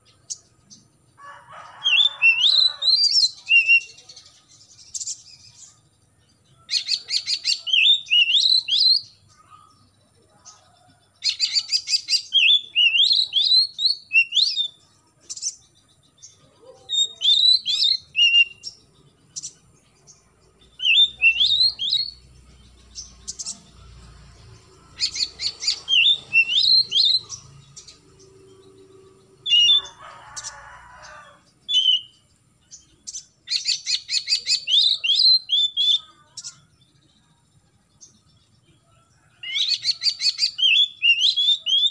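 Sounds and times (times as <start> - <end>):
bird singing: 0.0 - 41.9.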